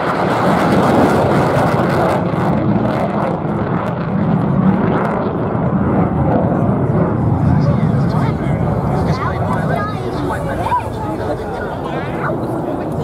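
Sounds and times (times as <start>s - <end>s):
jet engines in afterburner: 0.0s - 13.0s.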